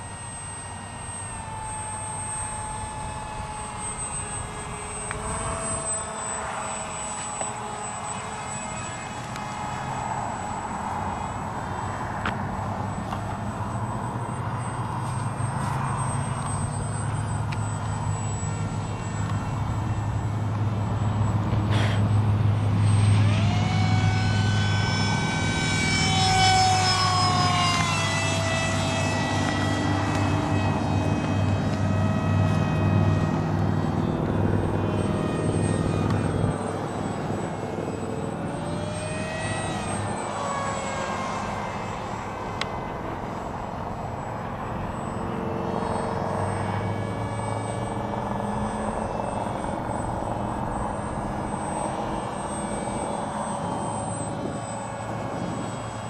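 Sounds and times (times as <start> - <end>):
model airplane motor whine: 0.0 - 56.0
steady low hum: 0.0 - 56.0.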